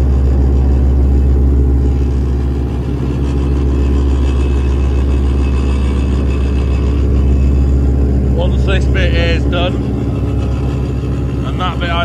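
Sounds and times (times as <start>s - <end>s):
faint high whine: 0.0s - 12.0s
roller diesel engine running: 0.0s - 12.0s.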